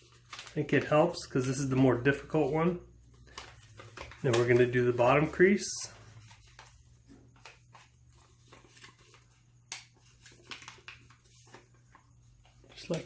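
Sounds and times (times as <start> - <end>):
paper crackle: 0.0 - 13.0
paper rustling and crinkling: 0.0 - 13.0.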